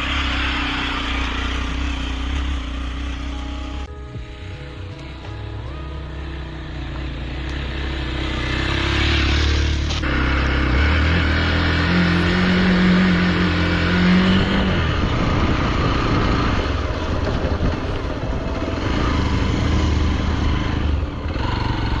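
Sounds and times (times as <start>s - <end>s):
motorcycle engine running: 0.0s - 4.3s, 5.0s - 22.0s.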